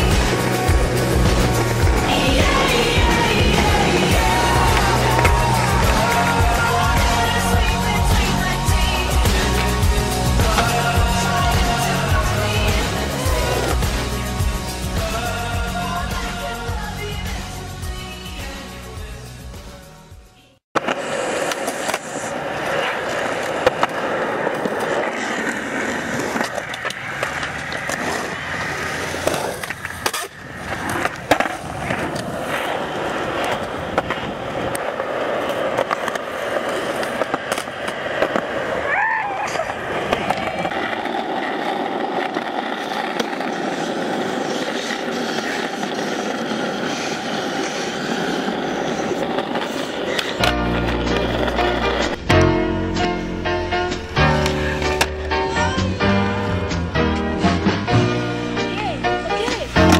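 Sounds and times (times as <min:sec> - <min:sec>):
skateboard wheels rolling on concrete: 0:00.0 - 0:59.9.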